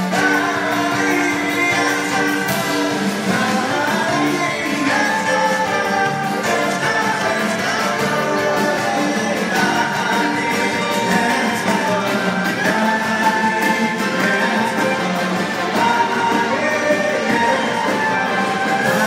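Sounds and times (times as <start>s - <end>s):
live band with singing: 0.0s - 19.0s.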